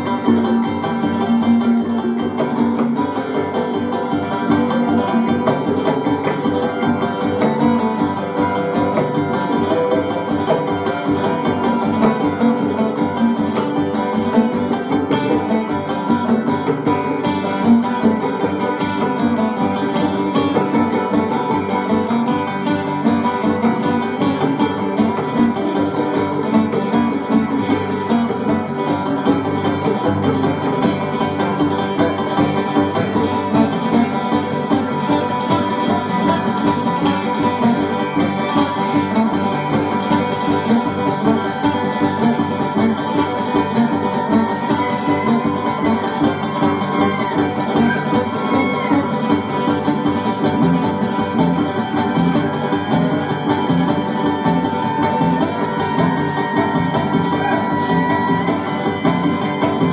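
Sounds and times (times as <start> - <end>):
fiddle: 0.0 - 59.9
second guitar: 0.0 - 59.9
strummed acoustic guitar: 0.0 - 59.9.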